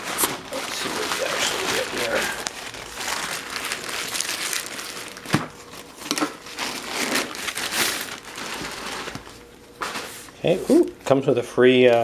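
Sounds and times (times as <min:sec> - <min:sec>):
packaging crinkling and rustling: 0:00.0 - 0:10.5.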